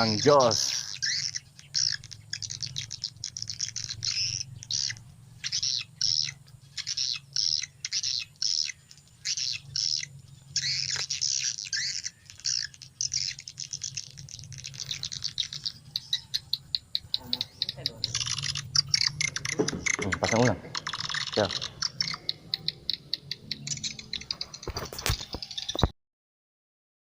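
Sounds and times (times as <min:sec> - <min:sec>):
high twittering bird chirps: 0:00.0 - 0:25.9.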